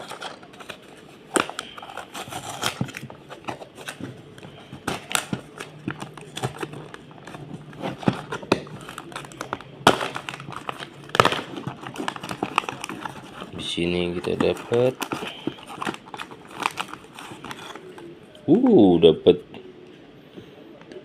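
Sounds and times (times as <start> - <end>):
plastic crinkling and tearing: 0.0 - 18.2.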